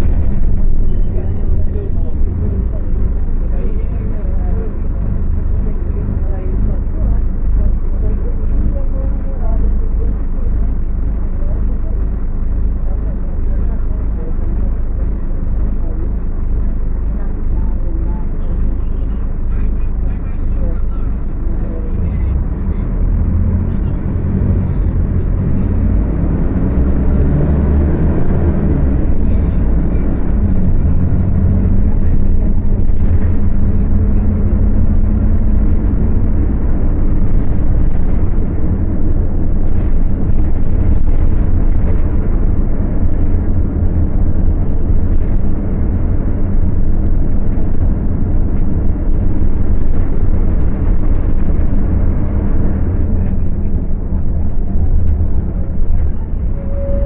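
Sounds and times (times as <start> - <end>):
bus diesel engine whining: 0.0 - 57.0.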